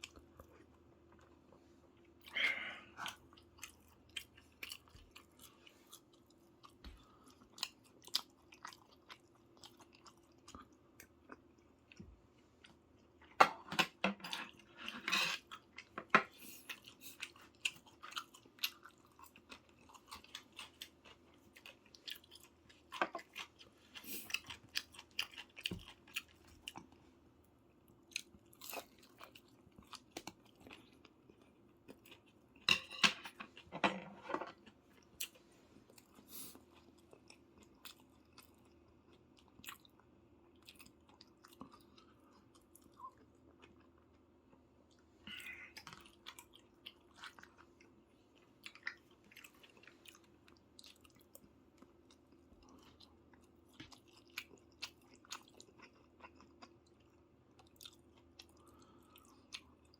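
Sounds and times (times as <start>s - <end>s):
chewing and eating: 0.0s - 59.9s.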